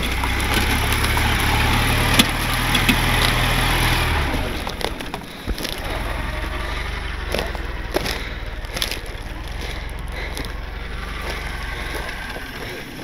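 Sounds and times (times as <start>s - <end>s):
sharp knocks and rattles: 0.0s - 12.6s
vehicle engine rumbling: 0.0s - 13.0s.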